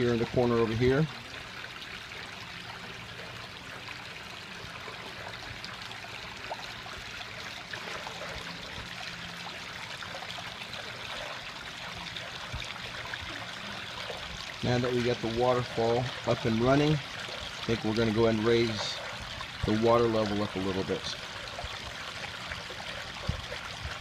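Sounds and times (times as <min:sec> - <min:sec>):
water spilling over rocks: 0:00.0 - 0:24.0.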